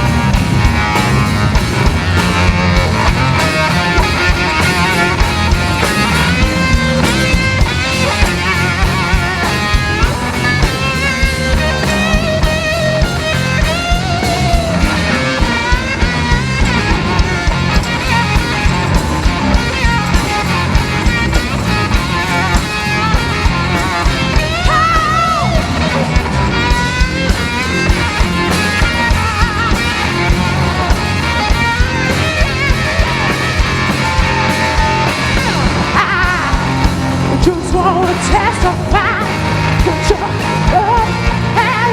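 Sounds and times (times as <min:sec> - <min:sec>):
bass guitar: 0:00.0 - 0:41.9
electric guitar lead: 0:00.0 - 0:41.9
steady drum beat: 0:00.0 - 0:41.9.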